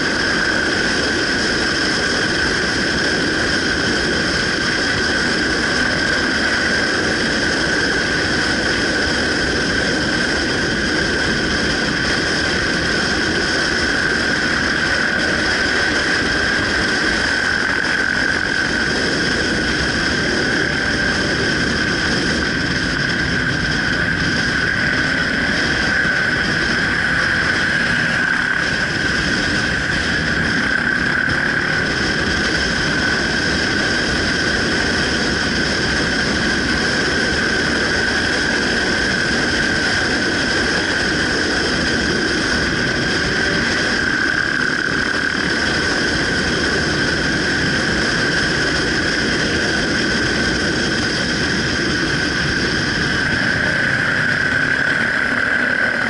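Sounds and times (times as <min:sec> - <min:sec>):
constant high-pitched tone: 0:00.0 - 0:56.0
motorcycle engine: 0:00.0 - 0:56.0
wind rush: 0:00.0 - 0:56.0.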